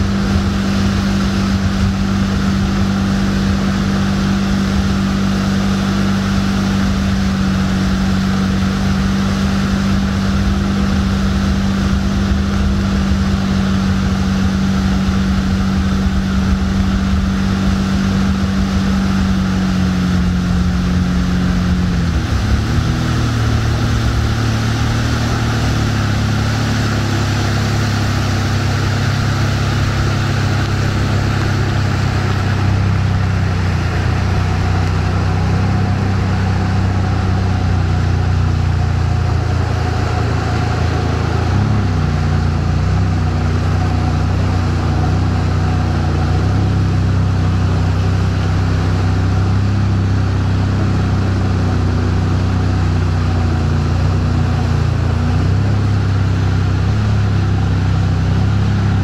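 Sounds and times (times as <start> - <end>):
churning boat wake rushing: 0.0 - 59.0
speedboat engine running: 0.0 - 59.0.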